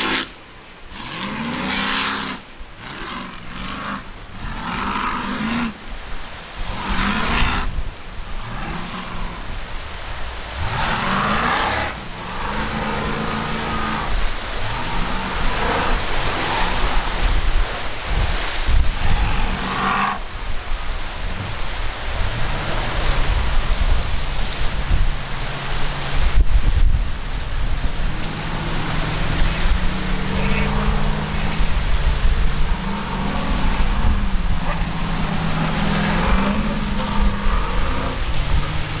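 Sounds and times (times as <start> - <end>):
rushing hiss of spray and wind: 0.0 - 39.0
speedboat engines revving: 0.0 - 39.0.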